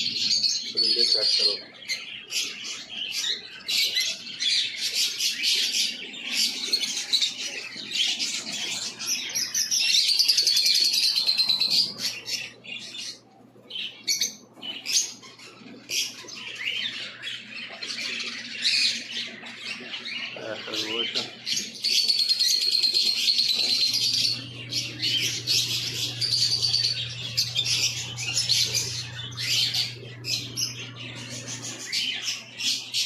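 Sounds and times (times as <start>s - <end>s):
caged birds chirping and squawking: 0.0s - 33.0s
loud rapid bird trill: 0.0s - 33.0s.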